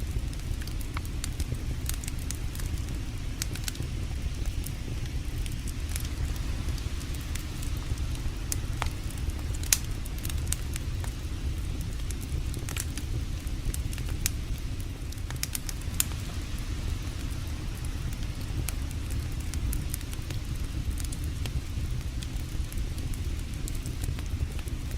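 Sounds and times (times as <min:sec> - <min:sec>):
campfire crackling and popping: 0:00.0 - 0:24.9
steady low rumble: 0:00.0 - 0:24.9.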